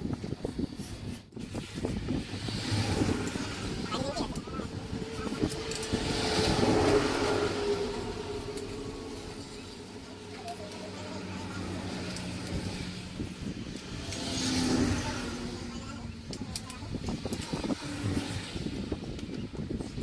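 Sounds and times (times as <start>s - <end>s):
vehicle passing by: 2.1s - 19.1s.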